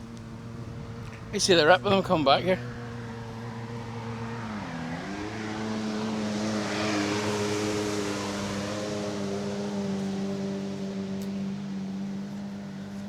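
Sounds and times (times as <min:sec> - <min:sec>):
boat engine passing: 0:00.0 - 0:13.0.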